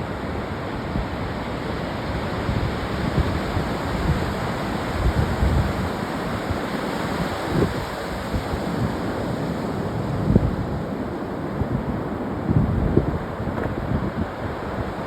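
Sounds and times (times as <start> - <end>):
ocean waves washing onto beach: 0.0 - 15.0
wind gusting on microphone: 0.0 - 15.0.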